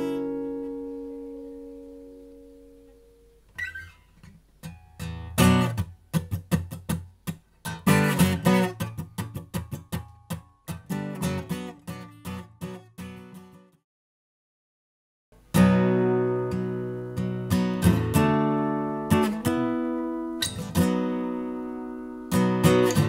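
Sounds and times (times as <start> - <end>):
acoustic guitar strumming: 0.0 - 13.7, 15.4 - 23.0.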